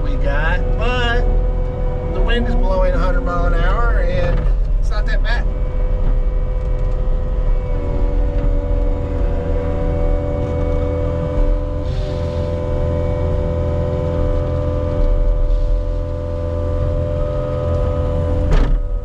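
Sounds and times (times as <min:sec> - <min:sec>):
diesel engine rumbling with whine: 0:00.0 - 0:19.0.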